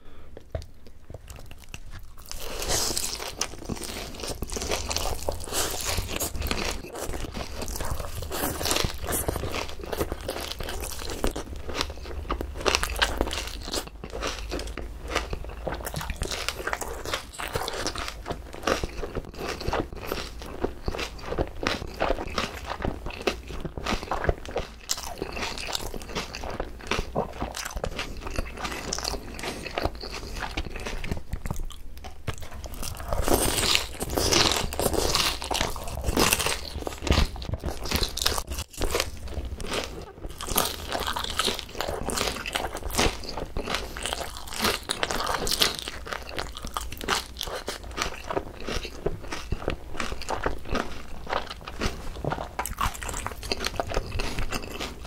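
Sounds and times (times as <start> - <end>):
crunching and chewing: 0.4 - 55.0.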